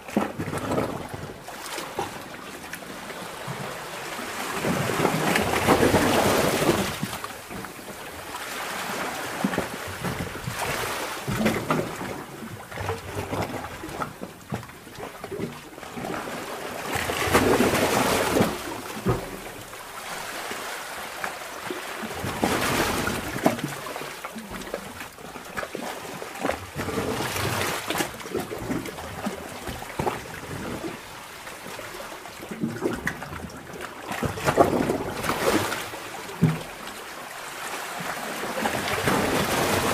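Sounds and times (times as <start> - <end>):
sea water surging in a cave: 0.0 - 39.9.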